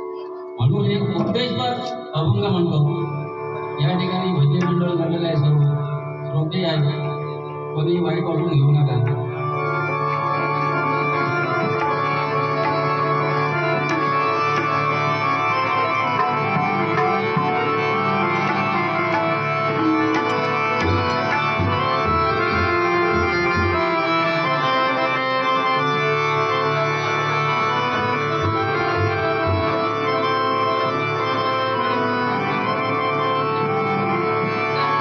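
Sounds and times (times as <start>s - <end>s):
harmonium chords: 0.0s - 35.0s.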